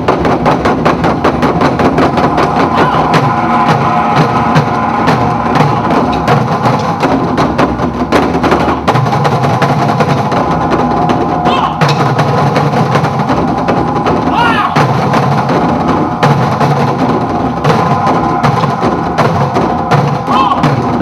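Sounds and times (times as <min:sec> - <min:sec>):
dance music with rapid percussion: 0:00.0 - 0:21.0.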